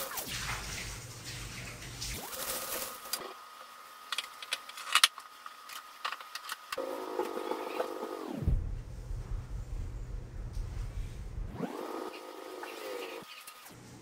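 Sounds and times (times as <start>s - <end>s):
steady humming tone: 2.2s - 14.0s.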